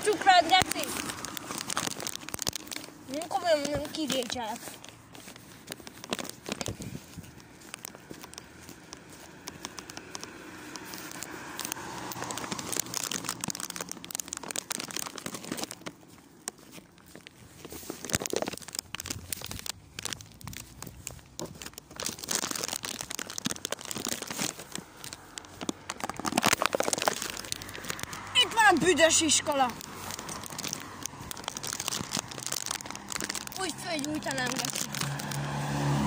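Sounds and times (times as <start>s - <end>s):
plastic bag crinkling: 0.0s - 36.0s.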